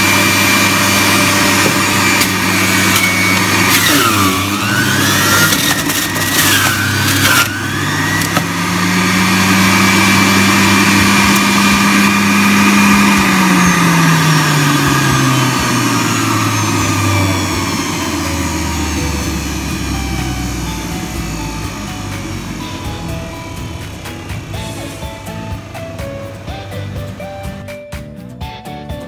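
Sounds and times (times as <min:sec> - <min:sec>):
juicer grinding and rattling: 0:00.0 - 0:27.6
juicer motor hum: 0:00.0 - 0:27.7.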